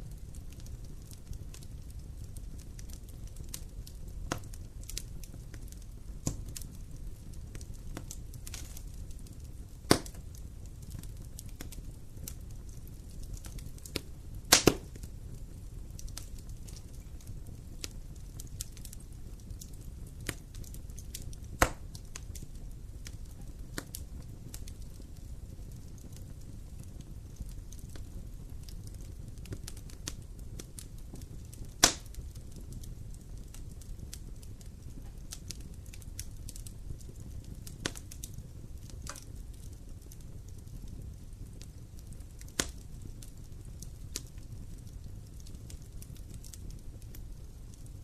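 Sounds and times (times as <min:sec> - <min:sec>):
campfire crackling and popping: 0:00.0 - 0:48.0
fire low rumble: 0:00.0 - 0:48.0.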